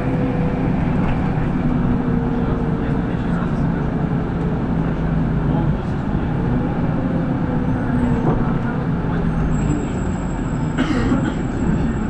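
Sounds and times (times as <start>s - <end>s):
bus engine hum and road noise: 0.0s - 12.0s.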